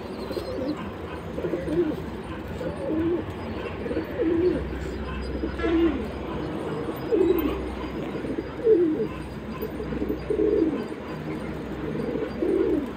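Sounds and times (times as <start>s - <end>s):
pigeons cooing: 0.0s - 12.9s.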